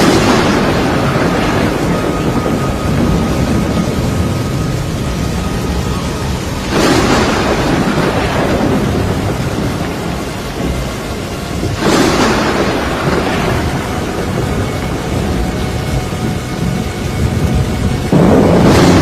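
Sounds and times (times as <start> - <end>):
heavy rain: 0.0 - 19.0
thunder rumbling: 0.0 - 19.0.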